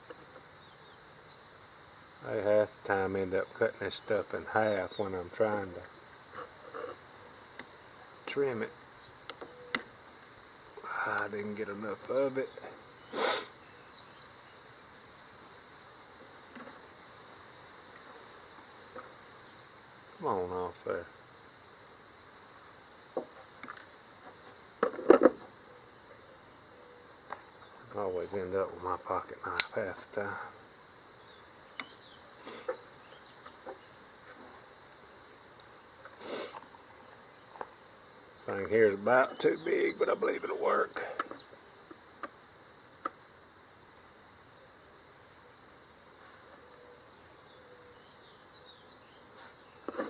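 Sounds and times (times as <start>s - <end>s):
high-pitched insect chirring: 0.0s - 46.0s
loud scraping hiss: 0.0s - 50.0s.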